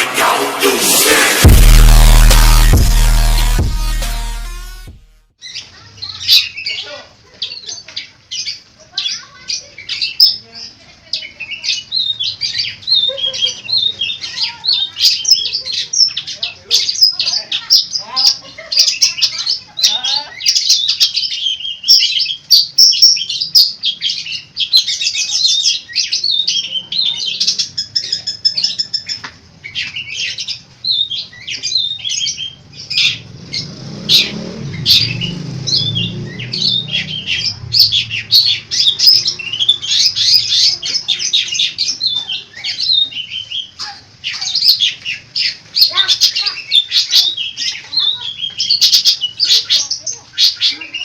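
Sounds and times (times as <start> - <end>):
bird singing chatter: 5.4 - 51.0.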